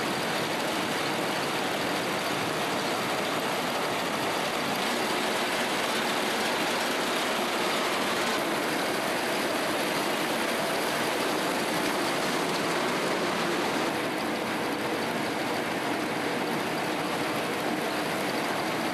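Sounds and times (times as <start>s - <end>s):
combine harvester running: 0.0s - 18.9s.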